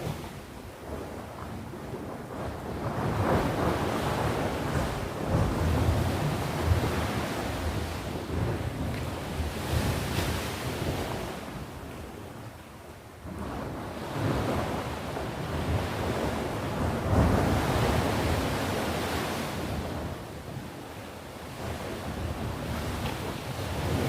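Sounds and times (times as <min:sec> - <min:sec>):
sea waves breaking ashore: 0:00.0 - 0:01.0, 0:02.0 - 0:11.8, 0:13.2 - 0:24.0.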